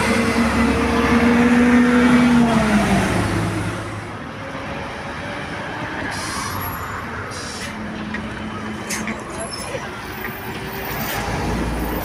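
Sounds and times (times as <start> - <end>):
bus engine pulling away: 0.0 - 12.0
street traffic noise: 0.0 - 12.0.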